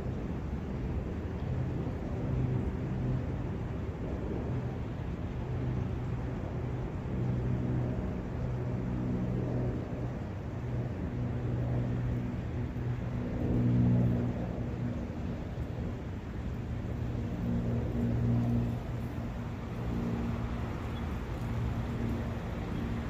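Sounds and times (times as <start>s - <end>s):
low rumble of wind: 0.0s - 23.0s.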